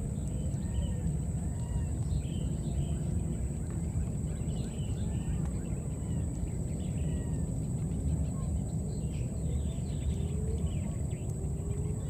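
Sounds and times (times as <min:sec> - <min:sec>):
constant thin high tone: 0:00.0 - 0:12.0.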